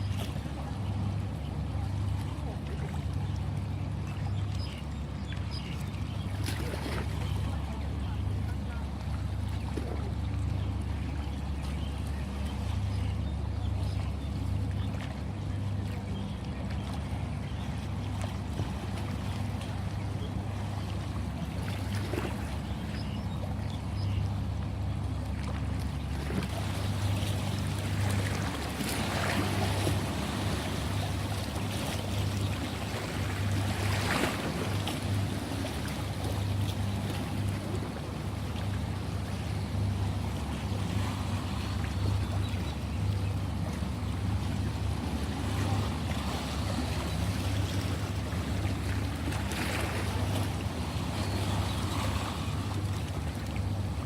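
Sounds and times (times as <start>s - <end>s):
sea water washing: 0.0s - 54.0s.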